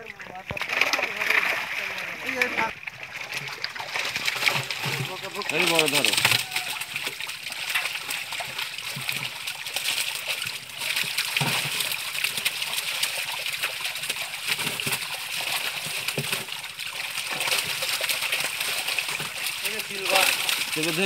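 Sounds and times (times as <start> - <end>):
fish thrashing and splashing: 0.0 - 21.0.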